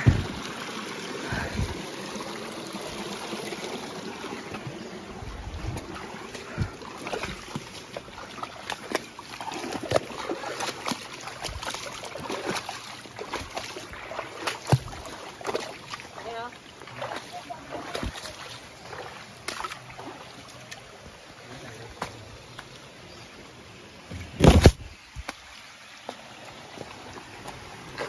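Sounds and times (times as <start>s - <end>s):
stream trickling over stones: 0.0s - 28.0s.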